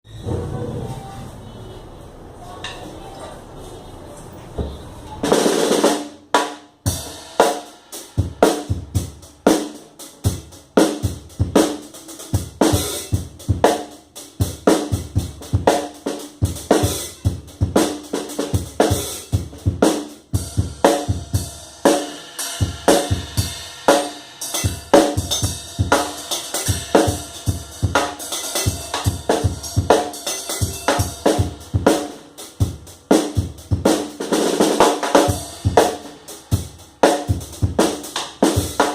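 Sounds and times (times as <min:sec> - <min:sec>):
drum kit played fast: 0:04.6 - 0:38.9.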